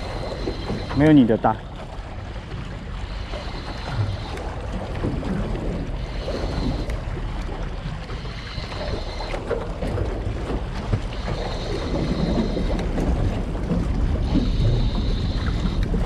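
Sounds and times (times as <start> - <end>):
sea waves against rocks: 0.0 - 16.0.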